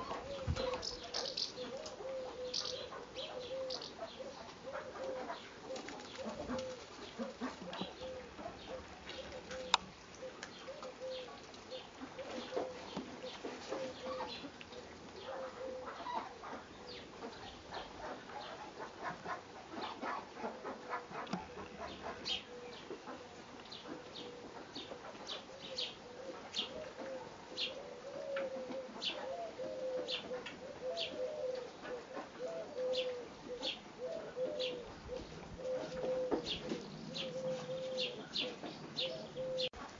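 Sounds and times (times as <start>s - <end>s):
bird cooing: 0.0s - 18.6s, 20.1s - 39.9s.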